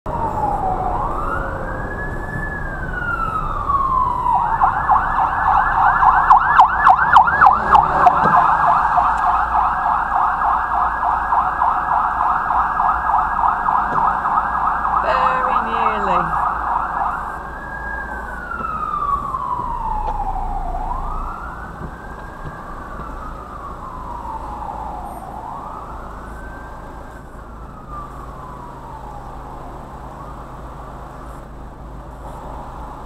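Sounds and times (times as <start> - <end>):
fire engine siren wailing: 0.1 - 33.0.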